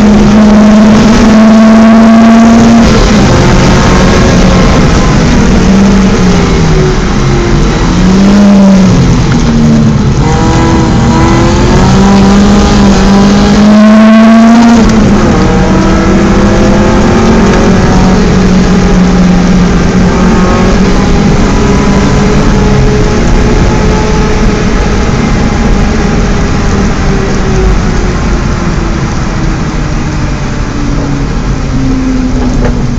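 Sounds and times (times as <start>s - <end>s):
car engine revving: 0.0s - 32.9s
wind and road noise: 0.0s - 32.9s.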